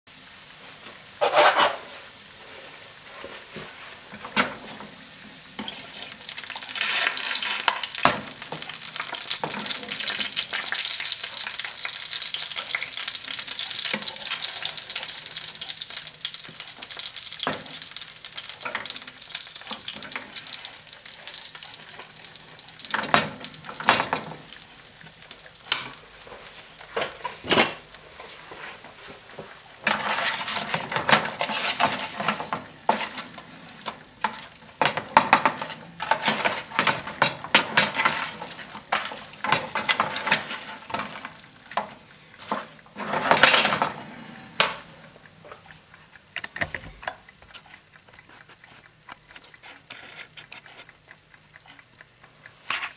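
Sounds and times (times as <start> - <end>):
potatoes sizzling in hot oil: 0.1 - 47.6.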